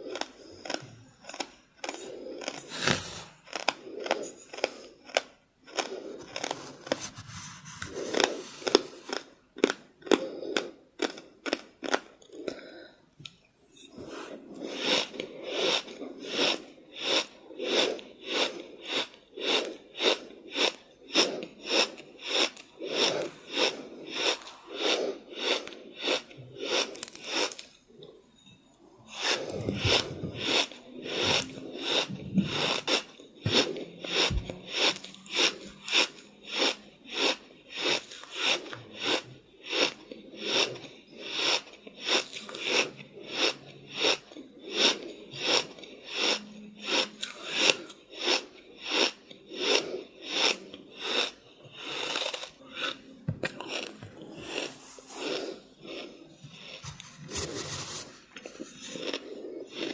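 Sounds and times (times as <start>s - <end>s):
chewing something crunchy: 0.0s - 12.8s, 13.9s - 28.2s, 29.1s - 59.9s.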